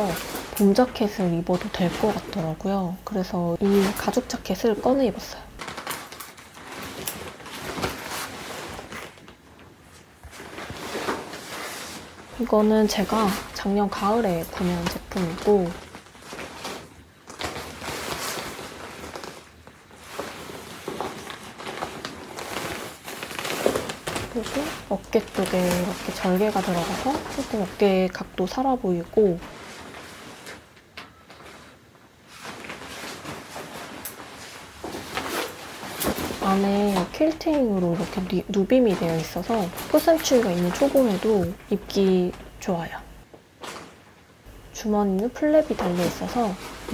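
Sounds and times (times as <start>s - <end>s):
leather jacket rustling and creaking: 0.0s - 46.9s.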